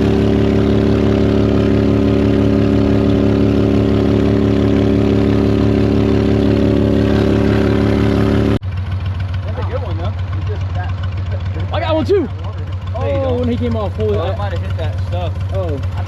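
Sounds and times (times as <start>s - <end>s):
boat motor running steadily: 0.0s - 16.0s.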